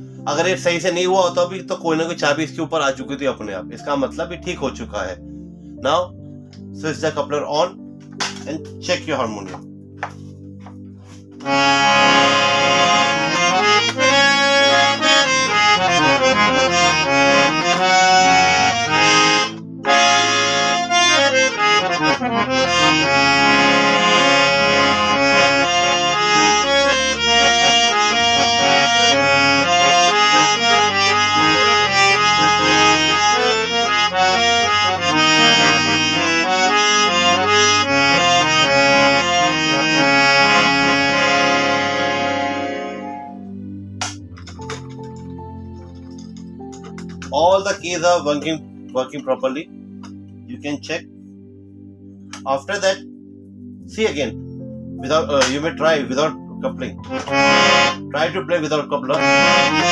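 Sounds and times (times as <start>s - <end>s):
harmonium chords and runs: 0.0s - 50.8s, 54.8s - 59.9s.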